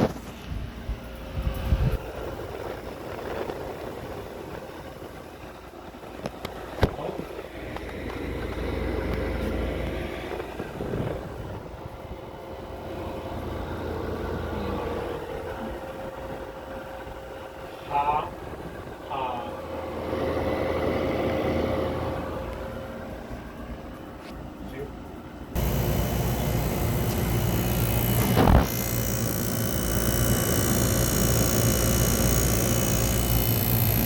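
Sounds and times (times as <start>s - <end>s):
window air conditioner humming: 0.0s - 34.0s.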